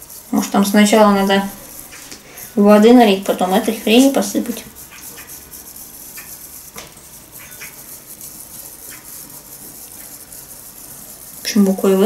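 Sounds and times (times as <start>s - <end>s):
whisk swishing in bowl: 0.0s - 12.0s
whisk ticking against bowl: 0.0s - 12.0s.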